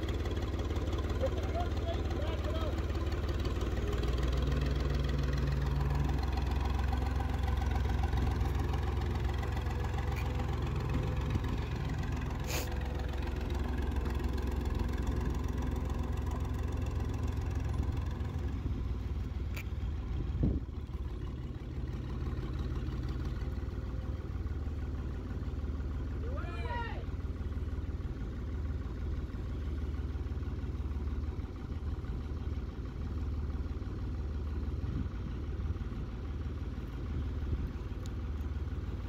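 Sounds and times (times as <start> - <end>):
loader tractor engine rumbling: 0.0 - 39.0.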